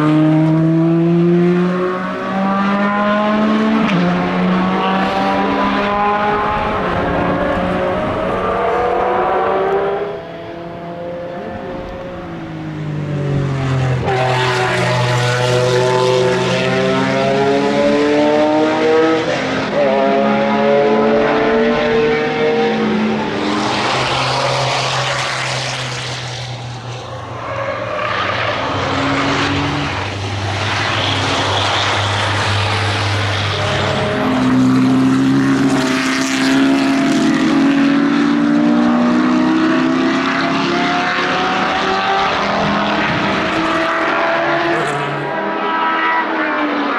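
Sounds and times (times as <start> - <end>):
racing car engines at full throttle: 0.0 - 46.9.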